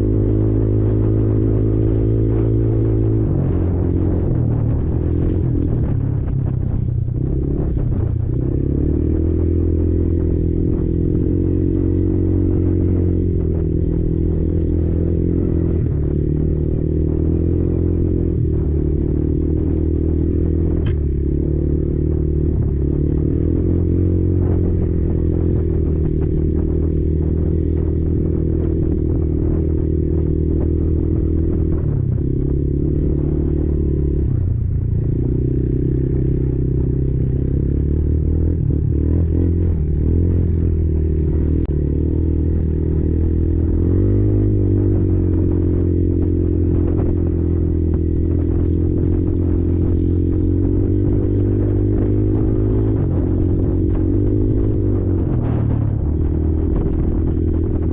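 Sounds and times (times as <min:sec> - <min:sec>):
quad engine running: 0:00.0 - 0:57.9.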